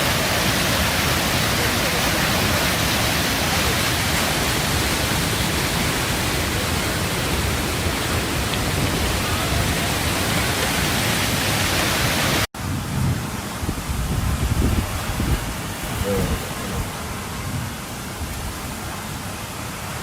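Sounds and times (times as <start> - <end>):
rainstorm and flood rushing: 0.0 - 20.0.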